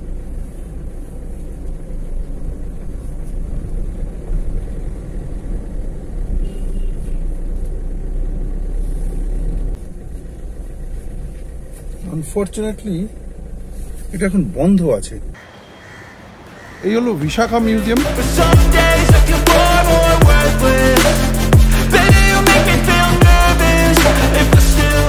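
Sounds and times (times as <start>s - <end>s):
road vehicle rumbling: 0.0s - 25.0s.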